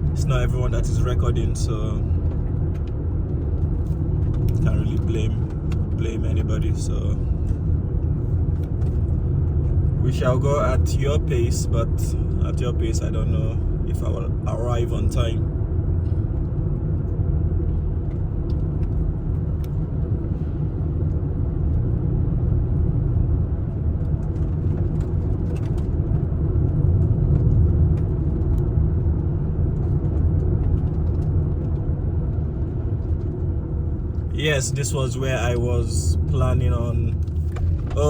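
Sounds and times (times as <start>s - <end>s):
tyre road noise: 0.0s - 38.0s
vehicle engine rumble: 0.0s - 38.0s.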